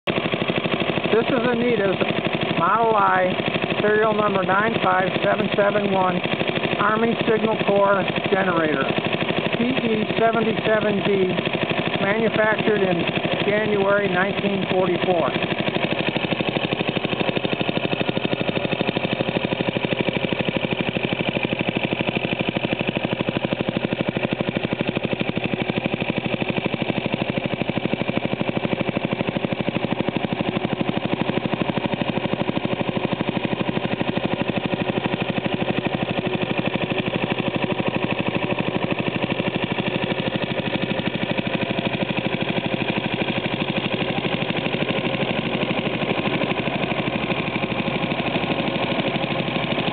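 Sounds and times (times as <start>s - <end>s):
generator engine running: 0.0s - 49.9s.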